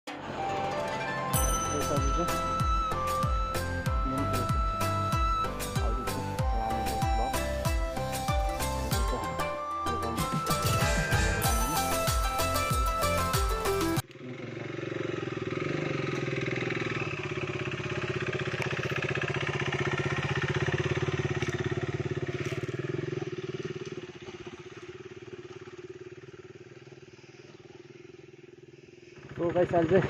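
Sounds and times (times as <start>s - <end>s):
motorcycle engine running: 0.1s - 30.0s.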